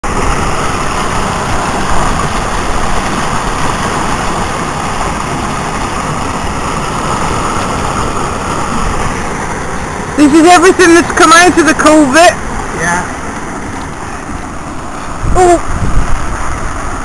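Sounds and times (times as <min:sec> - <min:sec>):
floodwater rushing through culvert: 0:00.0 - 0:17.0.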